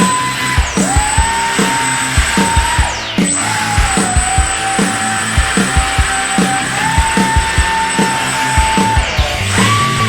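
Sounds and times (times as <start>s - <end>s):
rock music with drum beat: 0.0s - 10.0s.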